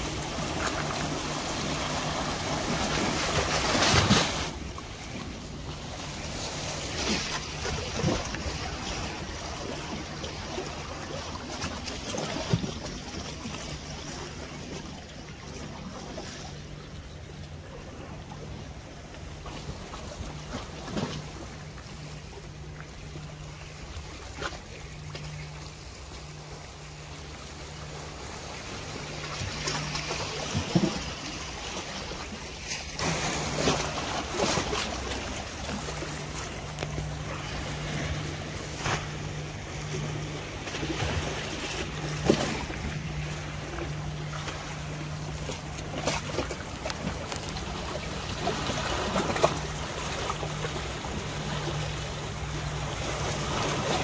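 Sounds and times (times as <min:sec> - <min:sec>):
sea waves washing on shore: 0:00.0 - 0:54.0
steady low hum: 0:00.0 - 0:54.0.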